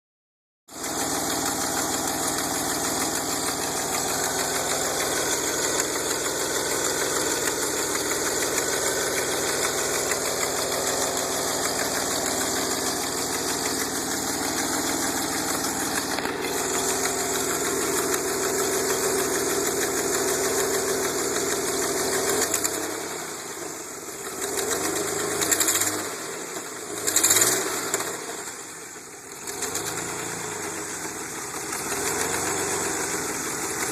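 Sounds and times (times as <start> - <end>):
car engine and leaking exhaust: 0.7 - 33.9.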